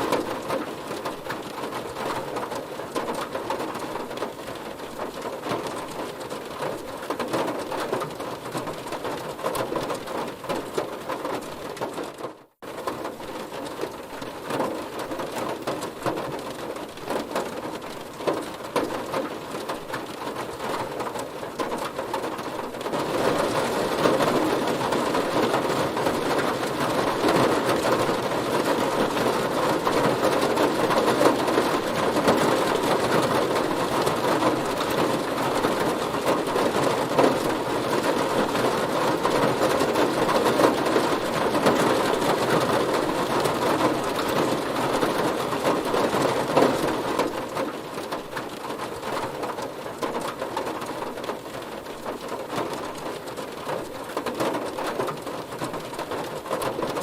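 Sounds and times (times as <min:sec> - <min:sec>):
heavy rain on a car: 0:00.0 - 0:57.0.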